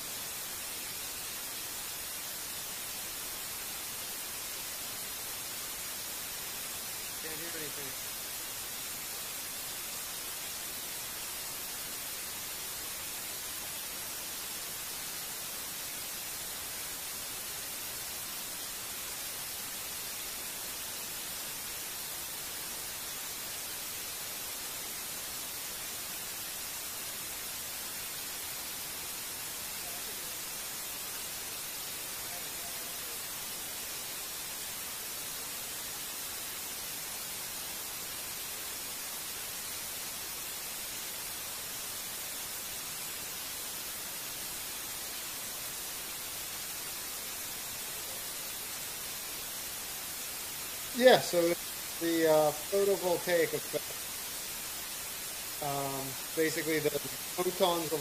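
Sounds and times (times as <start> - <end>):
steady static hiss: 0.0 - 58.0.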